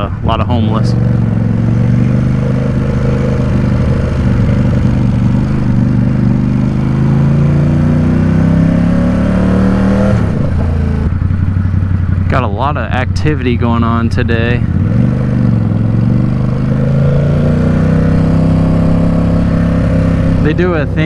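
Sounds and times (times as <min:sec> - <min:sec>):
motorcycle engine and exhaust: 0:00.0 - 0:21.0.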